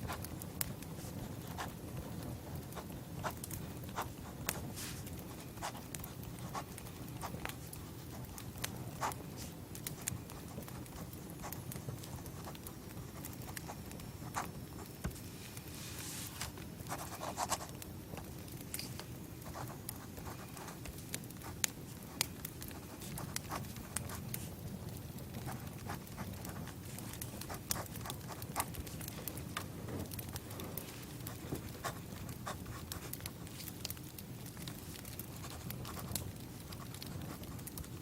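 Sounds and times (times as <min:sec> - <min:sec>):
campfire pops and crackles: 0:00.0 - 0:38.0.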